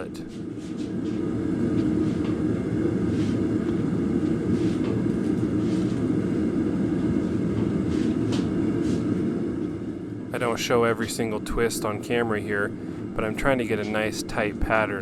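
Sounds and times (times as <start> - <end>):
forge burner roaring: 0.0 - 15.0.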